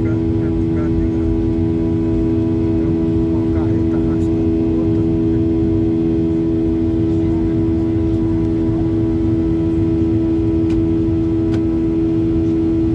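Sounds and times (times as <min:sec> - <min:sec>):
jet engines droning: 0:00.0 - 0:12.9.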